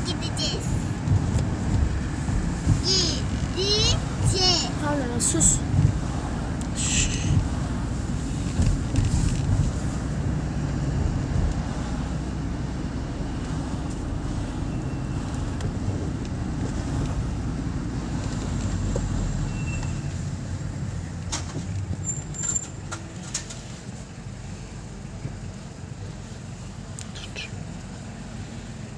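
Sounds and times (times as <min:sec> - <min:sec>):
car cabin road rumble: 0:00.0 - 0:28.9.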